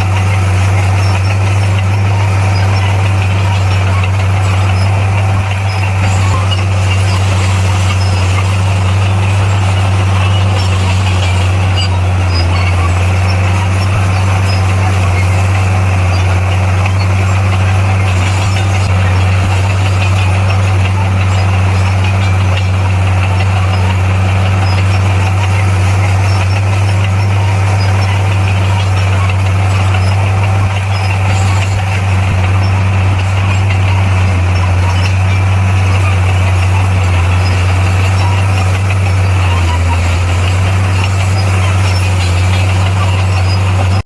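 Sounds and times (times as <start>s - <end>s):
heavy diesel engine running: 0.0s - 44.0s.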